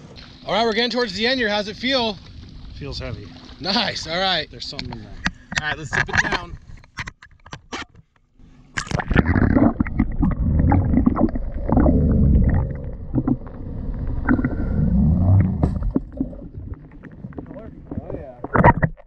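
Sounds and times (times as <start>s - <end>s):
muffled underwater rumble and gurgling: 0.0s - 6.9s, 8.4s - 19.0s.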